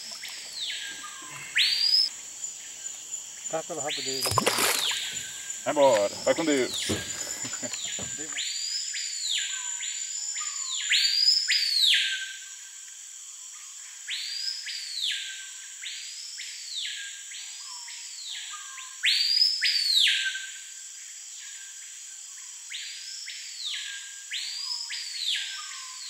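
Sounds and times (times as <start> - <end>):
high insect hum: 0.0 - 26.0.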